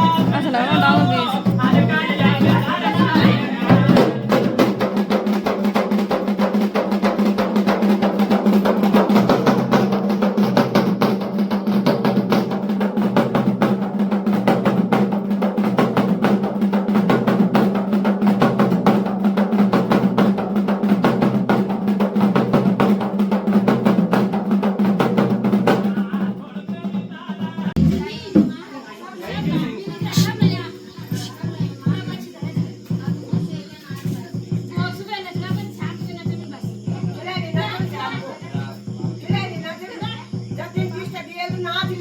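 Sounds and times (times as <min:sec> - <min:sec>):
fast continuous drumming: 0:00.0 - 0:28.6, 0:29.3 - 0:42.0.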